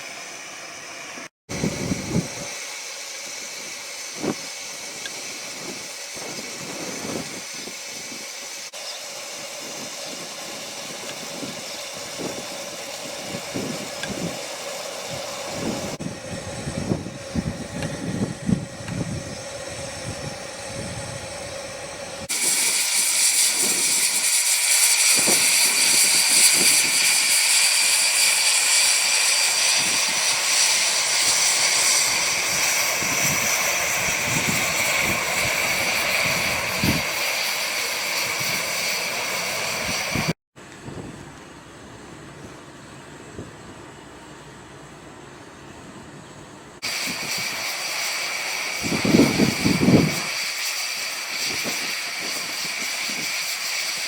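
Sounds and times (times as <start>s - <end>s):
loud steam blowing off: 0.0s - 40.4s, 46.8s - 54.0s
steam locomotive hissing: 0.0s - 40.4s, 46.8s - 54.0s.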